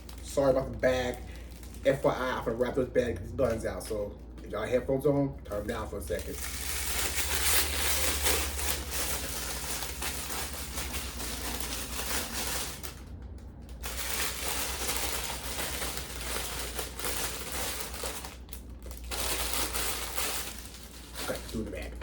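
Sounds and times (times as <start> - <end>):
plastic bag crinkling: 0.0 - 4.9, 5.5 - 22.0.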